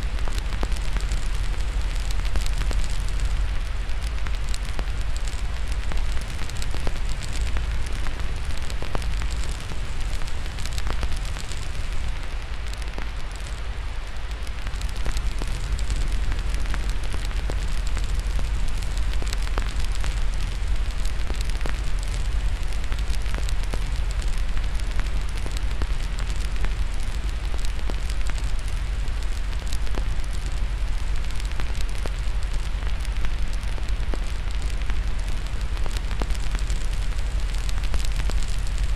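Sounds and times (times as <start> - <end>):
fire crackling: 0.0 - 38.9
white noise hiss: 0.0 - 38.9.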